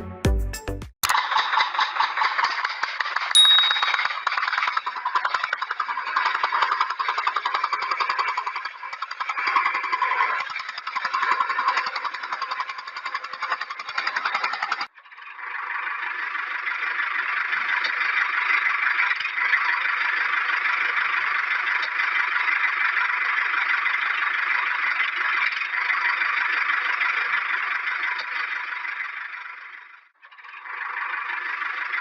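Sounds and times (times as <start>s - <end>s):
small electric motor and gears rattling: 1.1s - 32.0s.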